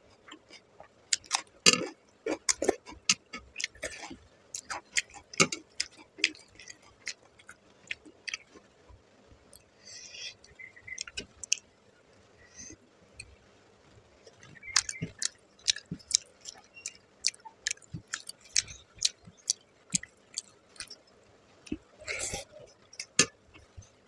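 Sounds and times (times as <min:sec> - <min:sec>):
person chewing food: 0:00.1 - 0:08.7, 0:09.5 - 0:11.6, 0:14.3 - 0:21.0, 0:21.7 - 0:24.0.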